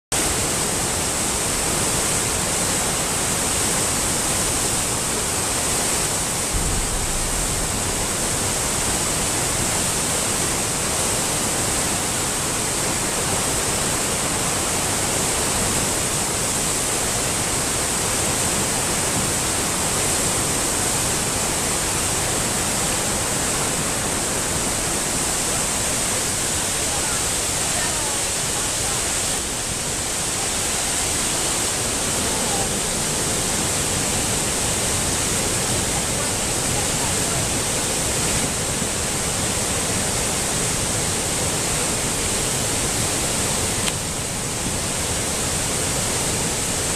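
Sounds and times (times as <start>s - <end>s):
floodwater rushing: 0.1s - 46.9s.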